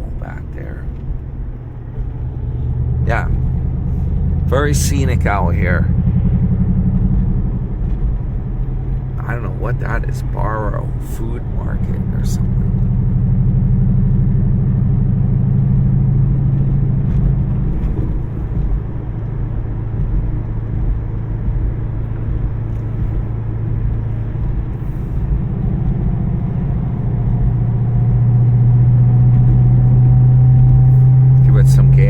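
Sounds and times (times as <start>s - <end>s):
car engine driving: 0.0s - 32.0s
road noise: 0.0s - 32.0s.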